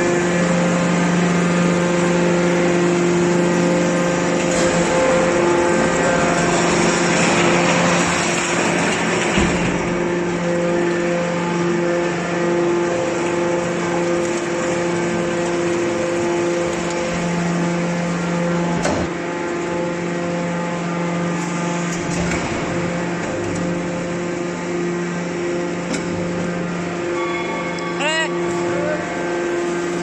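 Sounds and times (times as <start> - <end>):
hydraulic pump humming: 0.0 - 30.0.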